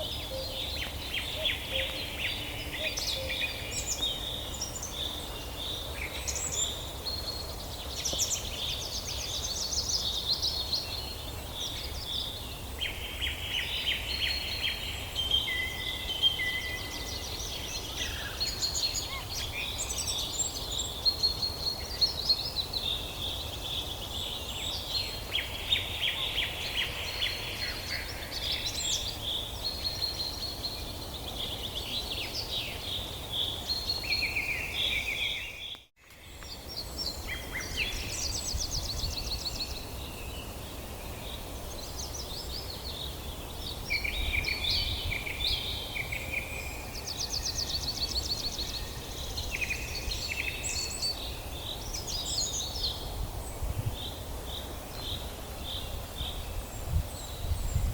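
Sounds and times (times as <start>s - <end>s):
songbirds chirping and trilling: 0.0s - 57.9s.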